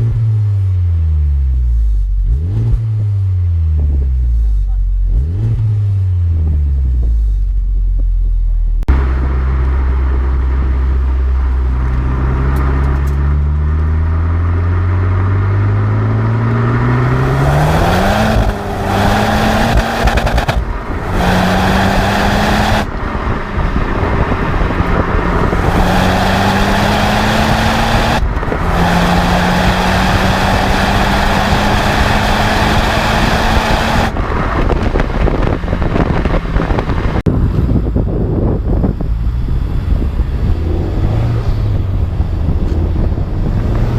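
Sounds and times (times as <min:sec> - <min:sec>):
car engine accelerating hard: 0:00.0 - 0:07.9, 0:08.7 - 0:43.9
road and wind noise: 0:00.0 - 0:43.9.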